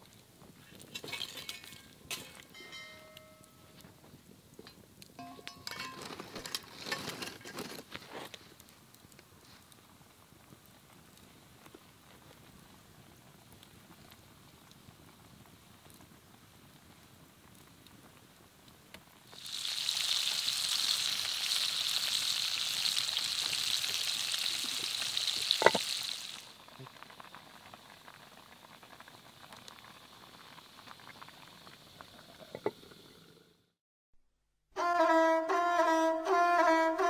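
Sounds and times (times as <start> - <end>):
stew sizzling and bubbling: 0.0 - 33.8.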